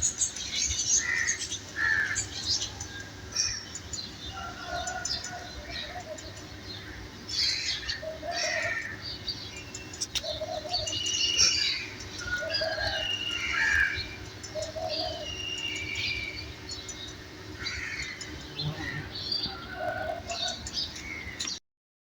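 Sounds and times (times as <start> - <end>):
birds chirping and whistling: 0.0 - 21.6
lower bird call: 0.0 - 21.6.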